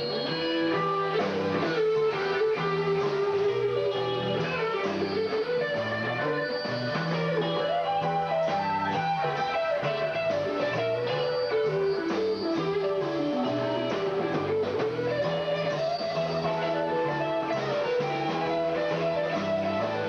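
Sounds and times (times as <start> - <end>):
bass line: 0.0 - 20.0
electric guitar lead line: 0.0 - 20.0
live rock band playing: 0.0 - 20.0.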